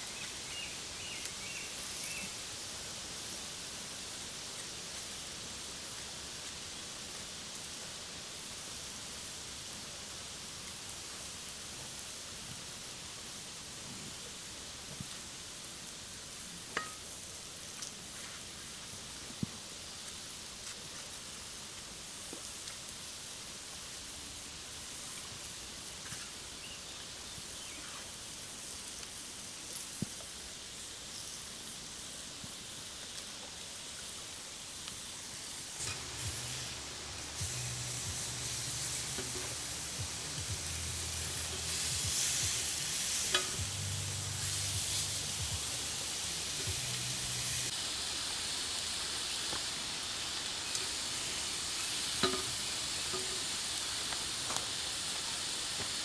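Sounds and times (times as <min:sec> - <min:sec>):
steaks sizzling over fire: 0:00.0 - 0:56.0.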